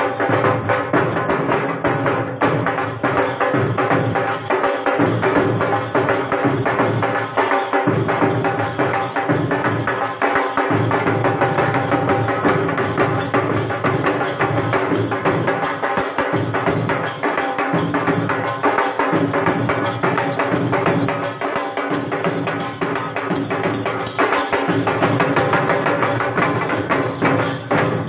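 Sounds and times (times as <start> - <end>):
fast steady drumming: 0.0 - 28.0
ankle bells jingling: 2.9 - 28.0.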